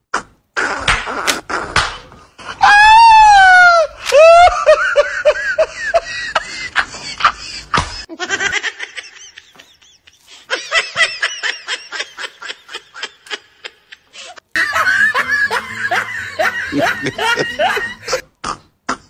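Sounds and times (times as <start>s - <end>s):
high-pitched laughter: 2.4s - 18.3s.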